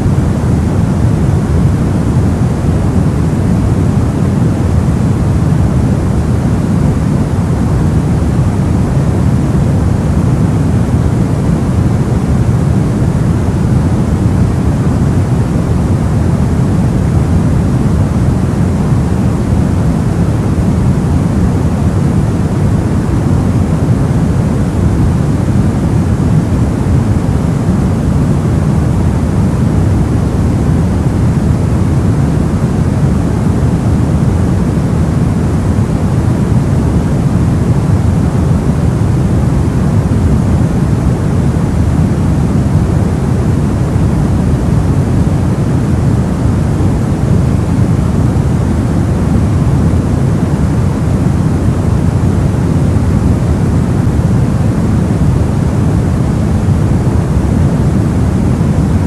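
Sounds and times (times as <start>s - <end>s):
muffled white noise hiss: 0.0s - 59.0s.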